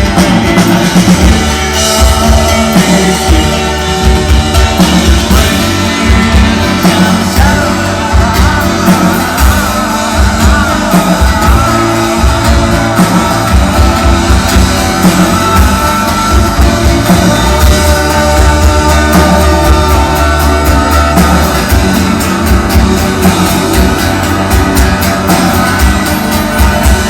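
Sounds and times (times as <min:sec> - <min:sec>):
rock band playing live: 0:00.0 - 0:27.0
wavering lead guitar line: 0:00.0 - 0:27.0.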